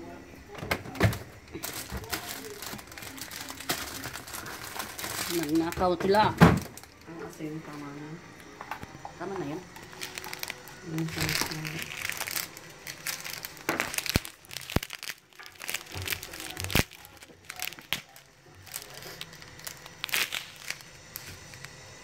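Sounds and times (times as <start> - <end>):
crinkly rustling: 0.8 - 7.7, 9.7 - 22.0.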